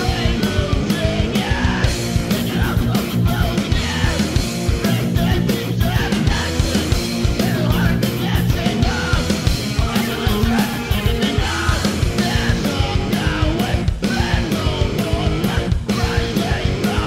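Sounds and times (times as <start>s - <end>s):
hardcore punk song: 0.0s - 17.0s.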